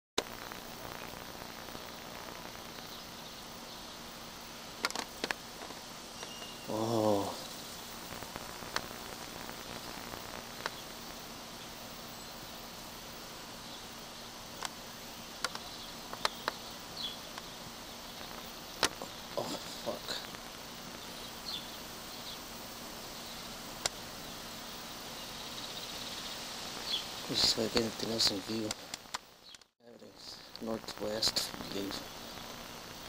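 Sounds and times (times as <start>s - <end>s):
background hiss: 0.2s - 33.0s
faint low hum: 0.3s - 28.8s.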